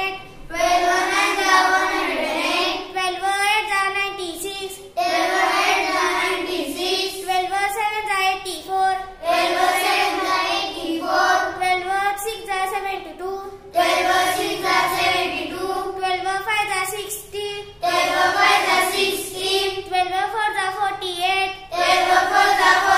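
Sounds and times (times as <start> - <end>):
girl chanting sing-song: 0.0 - 22.9.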